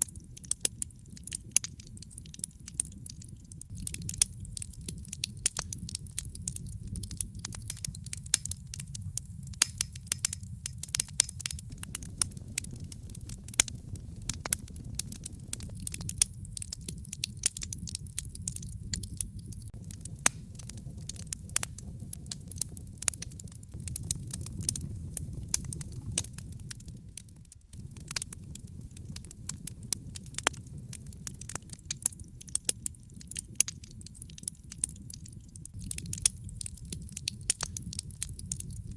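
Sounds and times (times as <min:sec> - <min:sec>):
low fire rumble: 0:00.0 - 0:38.9
wood fire crackling: 0:00.0 - 0:38.9.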